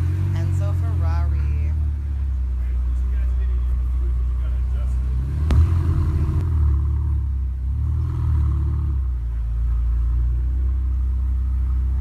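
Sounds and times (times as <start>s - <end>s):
sports car engine rumbling: 0.0s - 12.0s.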